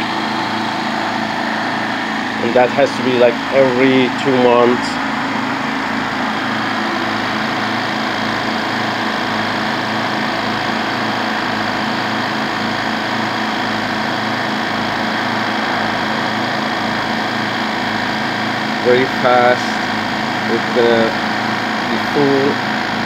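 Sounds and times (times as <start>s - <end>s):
air compressor running: 0.0s - 23.0s.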